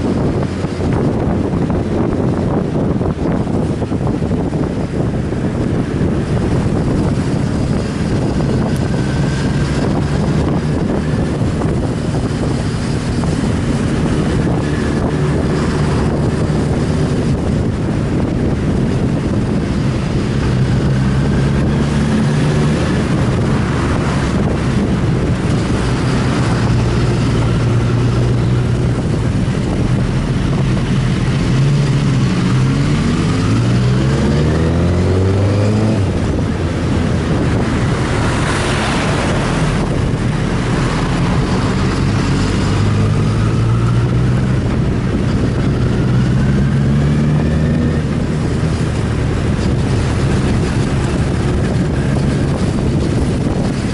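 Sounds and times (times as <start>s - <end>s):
motorcycle engine accelerating: 0.0s - 53.9s
wind rush: 0.0s - 53.9s.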